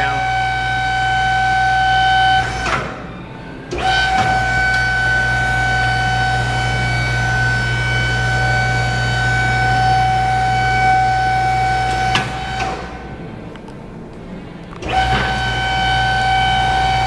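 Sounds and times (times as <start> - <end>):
hydraulic pump motor whining: 0.0 - 17.0.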